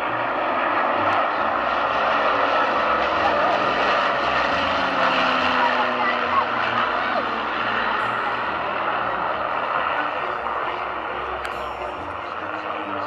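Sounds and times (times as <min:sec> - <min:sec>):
piston aircraft engines droning: 0:00.0 - 0:13.0.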